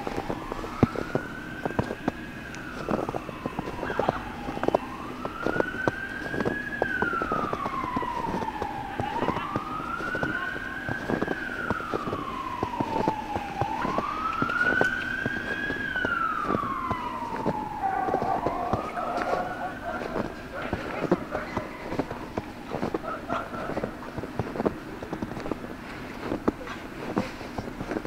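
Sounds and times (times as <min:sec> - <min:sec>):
footsteps in snow: 0:00.0 - 0:28.0
siren wailing: 0:00.0 - 0:28.0.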